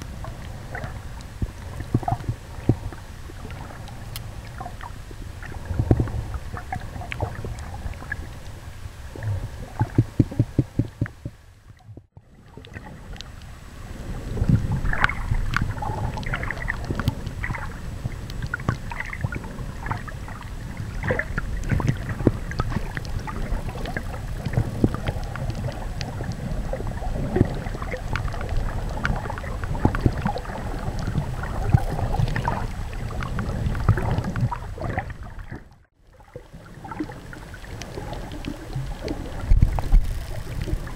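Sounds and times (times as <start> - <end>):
underwater rumble: 0.0 - 40.9
clicks and crackles: 0.2 - 8.6, 9.2 - 13.5, 14.5 - 35.8, 36.9 - 40.9.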